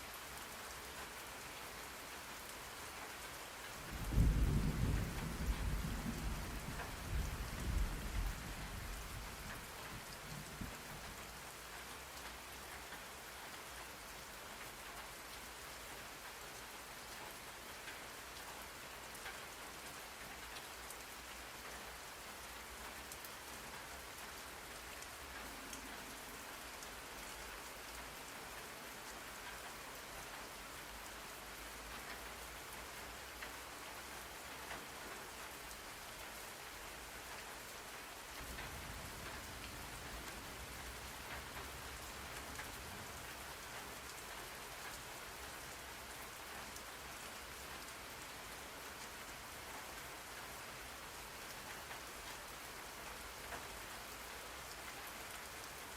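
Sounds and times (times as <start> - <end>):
steady rain hiss: 0.0 - 55.9
raindrop ticks: 2.0 - 55.9.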